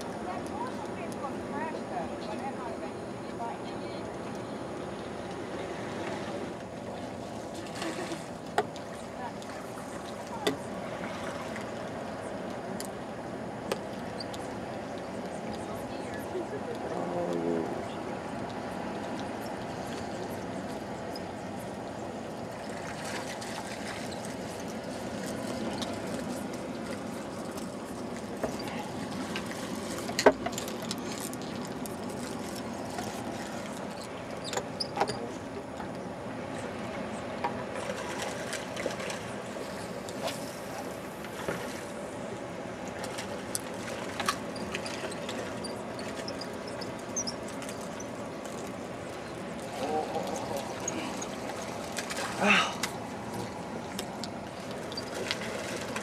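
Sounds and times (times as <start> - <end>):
ocean water washing: 0.0 - 56.0.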